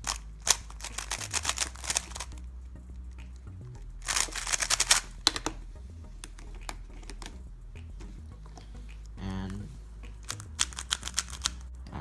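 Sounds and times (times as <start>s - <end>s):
puzzle cube layers clicking: 0.0s - 11.8s.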